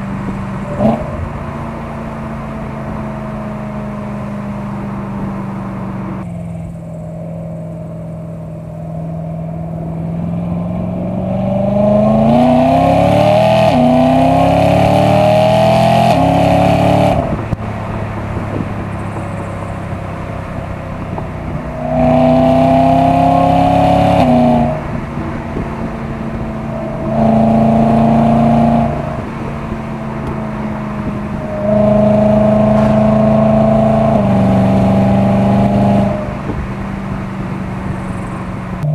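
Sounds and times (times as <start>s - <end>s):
car engine revving while driving: 0.0s - 38.9s.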